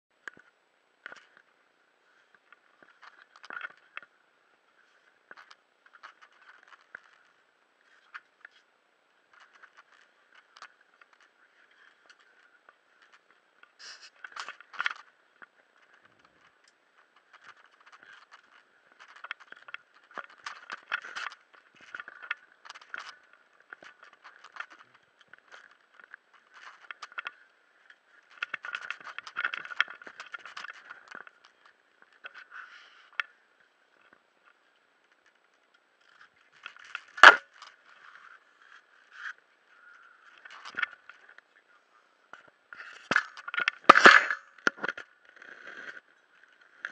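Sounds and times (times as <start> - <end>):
camera handling scraping and rattling: 0.3 - 1.5, 2.2 - 4.1, 4.8 - 8.7, 9.3 - 41.5, 42.3 - 46.9.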